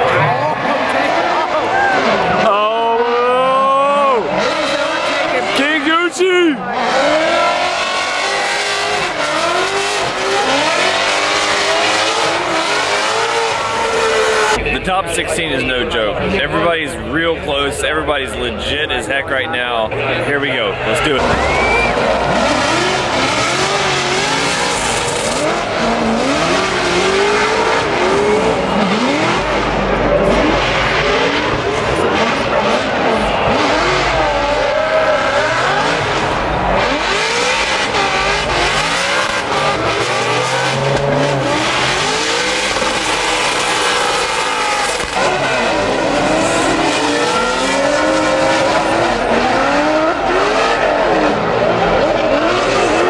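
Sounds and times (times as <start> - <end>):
tires squealing: 0.0 - 14.6, 19.9 - 53.0
car engines revving: 0.0 - 53.0.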